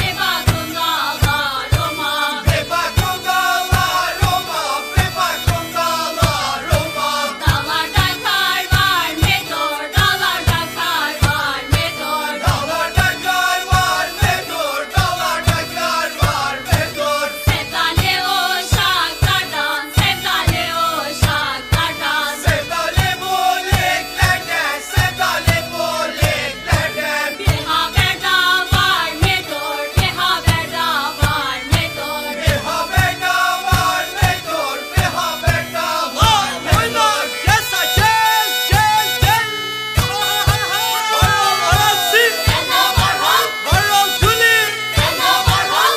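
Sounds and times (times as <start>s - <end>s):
steady drum beat: 0.0s - 45.9s
wavering chant-like melody: 0.0s - 45.9s.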